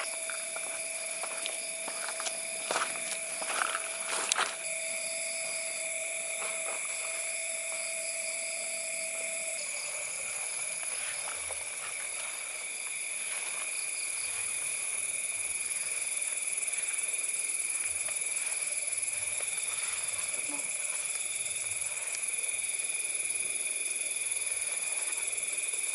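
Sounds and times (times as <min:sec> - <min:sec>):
night insects trilling: 0:00.0 - 0:25.9.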